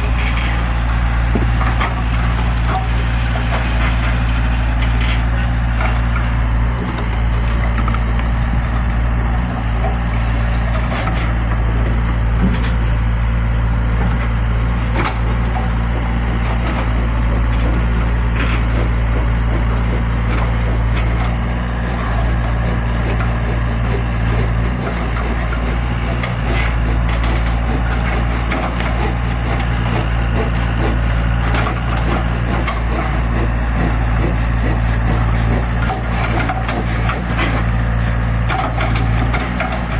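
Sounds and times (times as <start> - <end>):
bucket digging and scraping earth: 0.0 - 8.6, 15.0 - 39.9
excavator diesel engine: 0.0 - 39.9.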